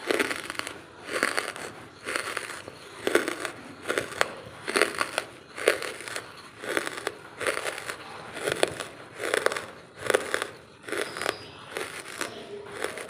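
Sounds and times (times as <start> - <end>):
chewing crunchy charcoal: 0.0 - 13.0.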